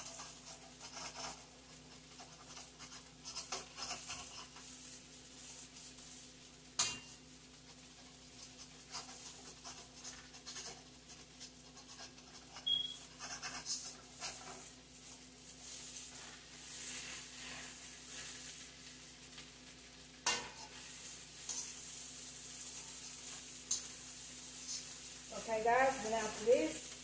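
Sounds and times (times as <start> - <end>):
light sizzle of frying food: 0.0 - 27.0
utensil scraping a wok: 0.0 - 27.0.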